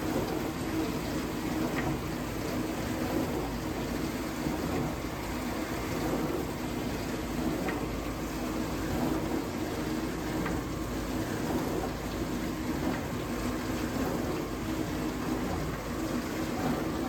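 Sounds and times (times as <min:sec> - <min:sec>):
dishwasher pump motor hum: 0:00.0 - 0:17.0
water washing inside dishwasher: 0:00.0 - 0:17.0.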